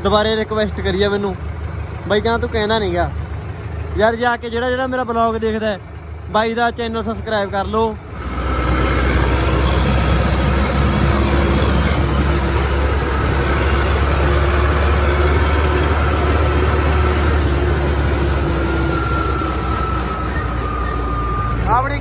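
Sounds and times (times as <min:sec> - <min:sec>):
tractor diesel engine rumbling: 0:00.0 - 0:22.0.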